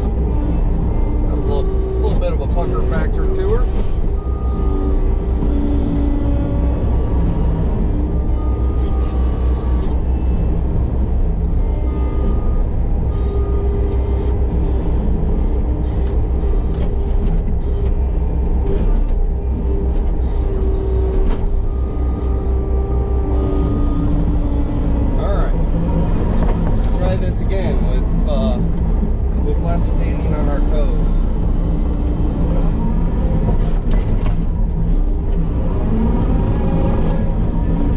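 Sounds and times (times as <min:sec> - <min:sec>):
diesel engine and hydraulics drone: 0:00.0 - 0:37.9.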